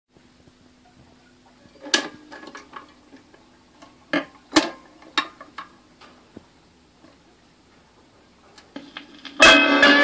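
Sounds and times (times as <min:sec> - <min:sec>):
faint low hum: 0:00.1 - 0:09.8.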